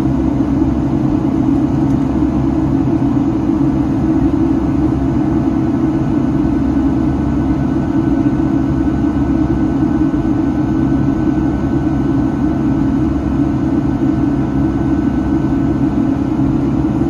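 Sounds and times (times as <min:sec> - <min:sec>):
jet engine drone in aircraft cabin: 0:00.0 - 0:17.0.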